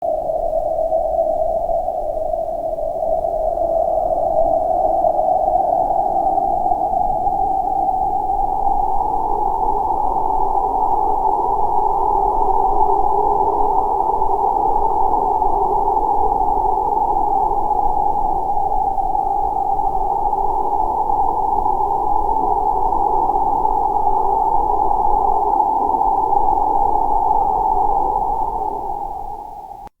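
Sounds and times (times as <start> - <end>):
whistling wind tone: 0.0 - 29.9.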